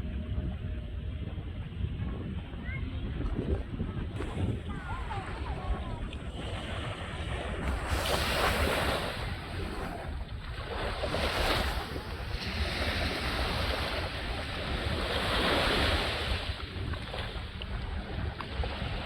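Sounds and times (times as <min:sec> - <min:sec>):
wind rumbling on microphone: 0:00.0 - 0:19.0
water rushing and gurgling: 0:02.6 - 0:19.0.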